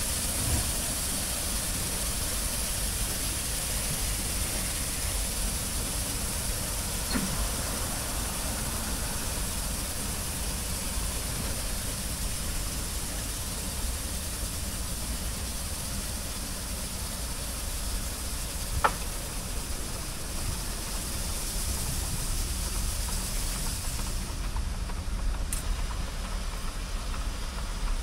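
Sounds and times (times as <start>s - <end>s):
water spray hissing: 0.0s - 24.4s
low machinery rumble: 0.0s - 28.0s.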